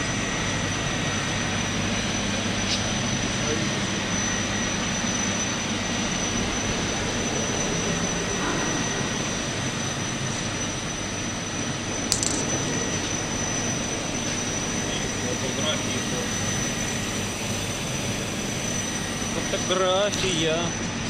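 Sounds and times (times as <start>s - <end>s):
machinery hum and hiss: 0.0s - 21.0s
thin high whine: 4.0s - 20.9s.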